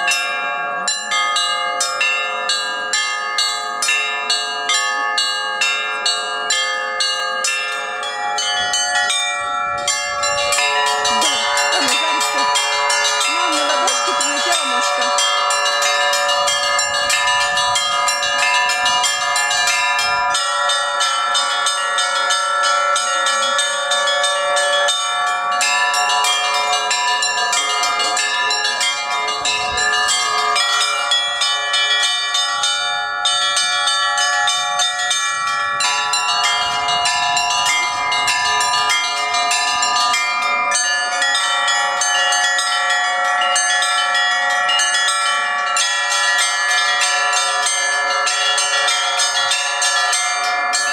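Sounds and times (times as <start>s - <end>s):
church bells pealing: 0.0s - 50.9s.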